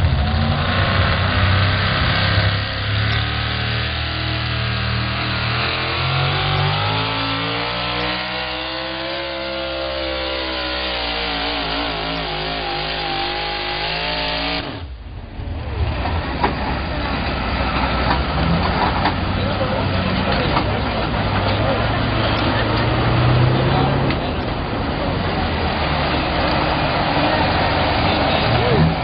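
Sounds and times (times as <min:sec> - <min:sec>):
low rough engine rumble: 0:00.0 - 0:29.0
truck engine at high revs: 0:00.0 - 0:29.0.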